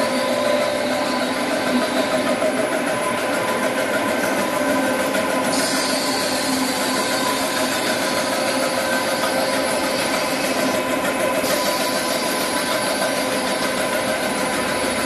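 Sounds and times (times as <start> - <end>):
printing machine drone: 0.0 - 15.0.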